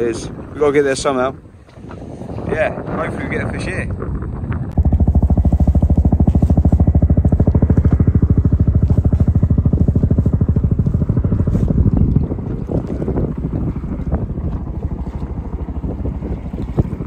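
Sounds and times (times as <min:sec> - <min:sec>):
helicopter rotor beat: 0:00.0 - 0:17.0.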